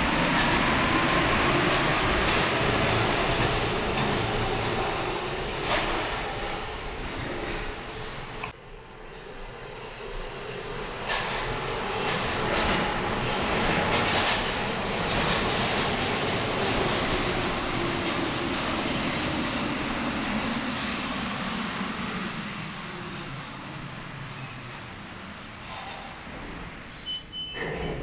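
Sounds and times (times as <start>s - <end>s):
rubber-tyred train running: 0.0s - 28.0s.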